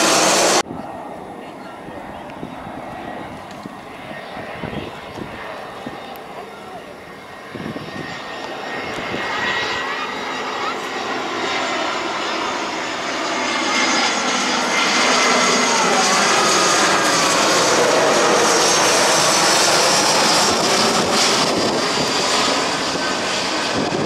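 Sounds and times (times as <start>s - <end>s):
jet airliner flying overhead: 0.0s - 24.0s
jet engine whine sliding down: 0.0s - 24.0s.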